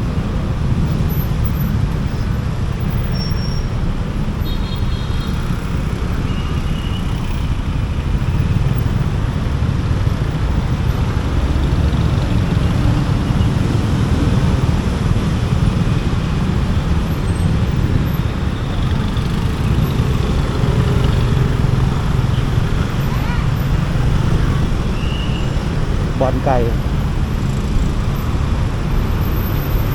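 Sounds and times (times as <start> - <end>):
motorcycle engine and road noise: 0.0 - 29.9.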